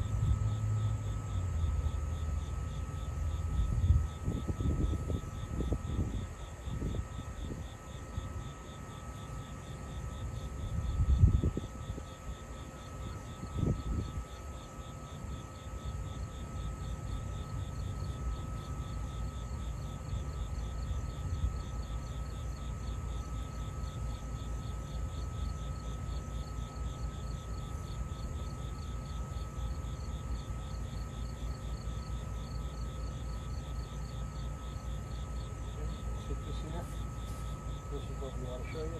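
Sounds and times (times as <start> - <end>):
faint steady hum: 0.0 - 38.9
insects chirping: 0.0 - 38.9.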